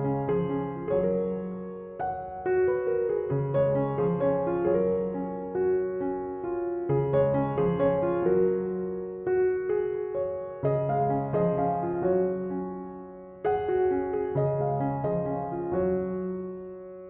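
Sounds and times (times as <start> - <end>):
piano chords ringing: 0.0 - 17.0.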